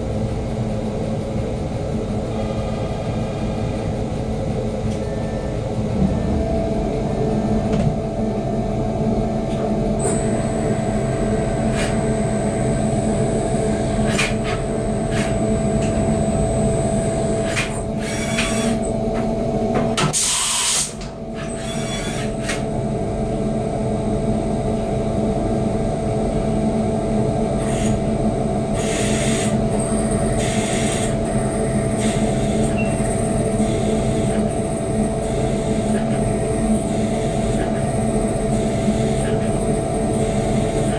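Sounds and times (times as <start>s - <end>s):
high machine whine: 0.0s - 40.9s
milling machine humming: 0.0s - 40.9s.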